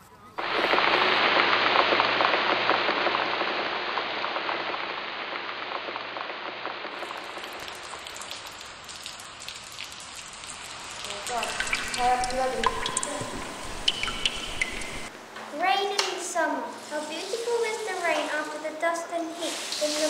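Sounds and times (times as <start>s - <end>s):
rain patter: 0.4s - 20.0s.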